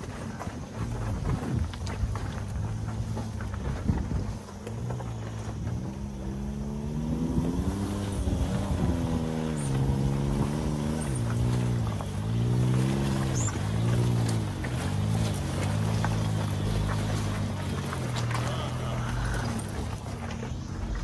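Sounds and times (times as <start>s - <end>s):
small car engine working off-road: 0.0s - 21.0s.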